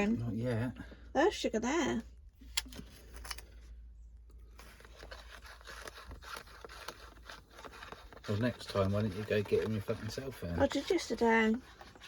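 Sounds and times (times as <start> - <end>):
faint rustling and scraping: 1.9 - 12.0.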